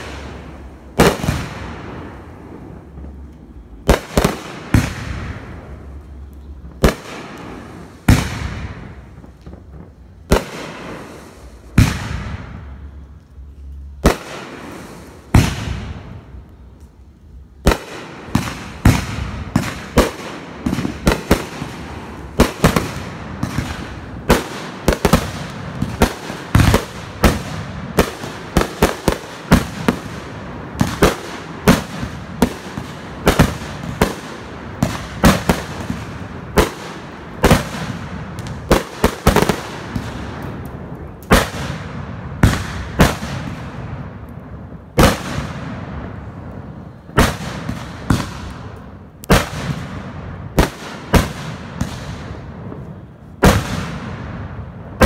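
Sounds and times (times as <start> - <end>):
firework bangs: 0.0 - 16.5, 17.4 - 55.0
firework crackling: 0.0 - 55.0.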